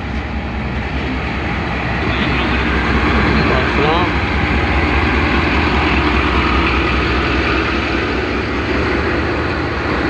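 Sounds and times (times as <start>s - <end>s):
diesel locomotive engine idling: 0.0s - 10.0s.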